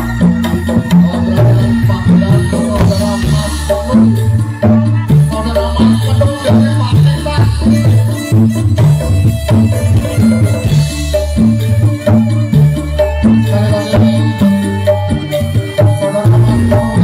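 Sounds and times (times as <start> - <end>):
drum strokes: 0.0 - 17.0
gamelan music through speakers: 0.0 - 17.0.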